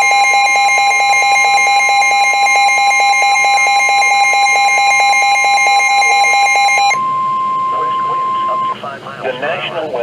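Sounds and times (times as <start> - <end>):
rapid pulsing beeps: 0.0 - 8.8
weather radio alarm tone: 0.0 - 8.8.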